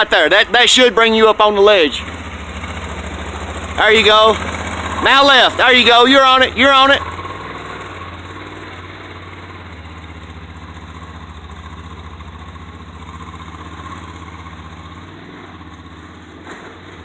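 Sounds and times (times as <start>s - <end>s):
vehicle engine running at low revs: 0.1s - 17.0s.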